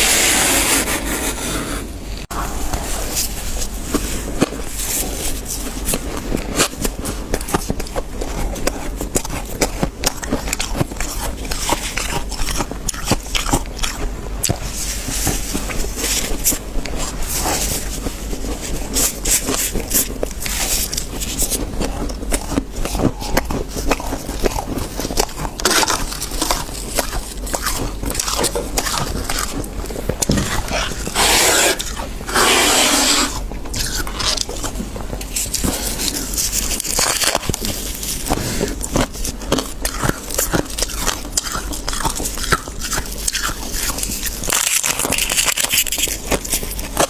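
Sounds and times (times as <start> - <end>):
frost crunching: 2.2 - 47.0.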